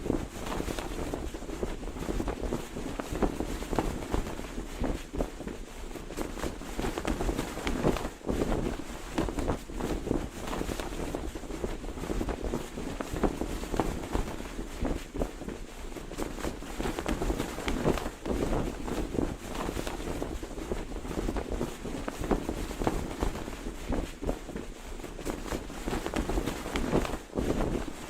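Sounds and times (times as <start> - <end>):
cloth flag flapping: 0.0 - 28.0.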